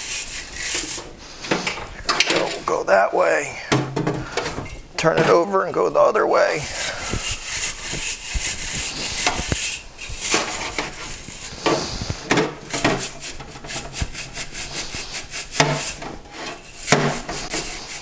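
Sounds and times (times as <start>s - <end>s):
brushes scrubbing metal cylinder: 0.0s - 3.6s, 5.0s - 18.0s.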